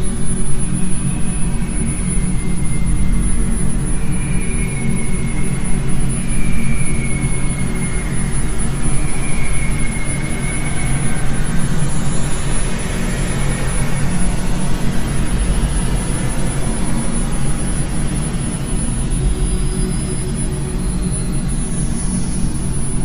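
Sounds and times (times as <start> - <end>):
loud rumbling drone: 0.0 - 23.0.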